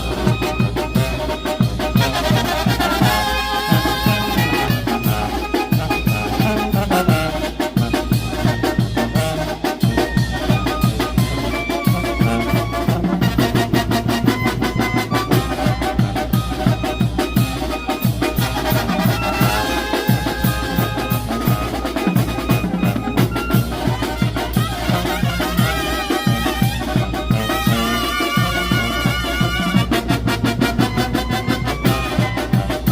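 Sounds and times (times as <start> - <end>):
bass drum and snare: 0.0 - 32.9
brass band playing: 0.0 - 32.9.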